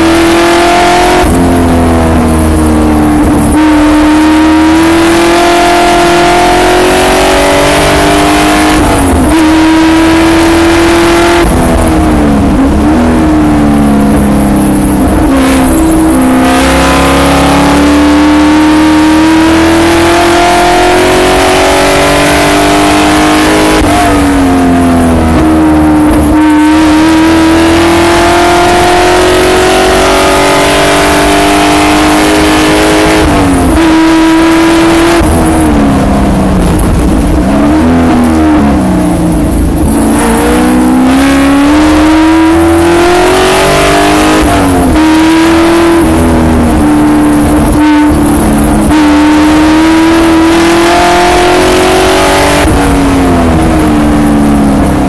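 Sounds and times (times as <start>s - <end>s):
race car engine at full throttle: 0.0s - 55.0s
wind and road noise: 0.0s - 55.0s.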